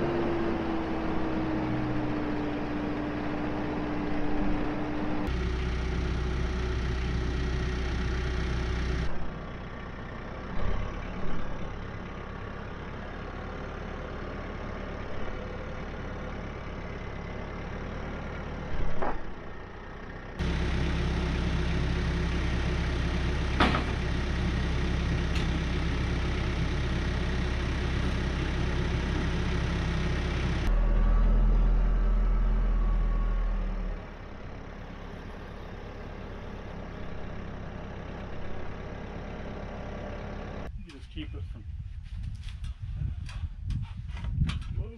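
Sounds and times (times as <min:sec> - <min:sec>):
diesel tractor engine running: 0:00.0 - 0:41.4.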